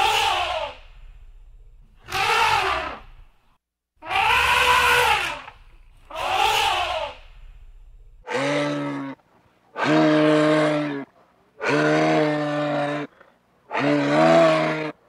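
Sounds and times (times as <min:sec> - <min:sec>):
animal calling low: 0:00.0 - 0:03.4, 0:04.0 - 0:09.2, 0:09.8 - 0:15.0.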